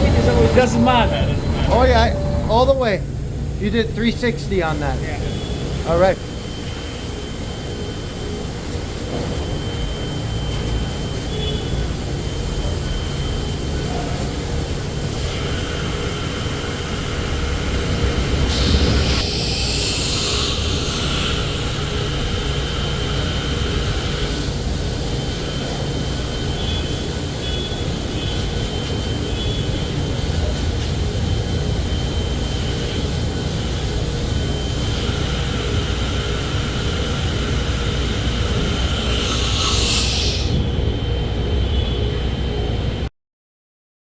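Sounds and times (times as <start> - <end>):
machining center running: 0.0 - 43.1
loud hiss: 3.6 - 30.3, 31.0 - 40.7.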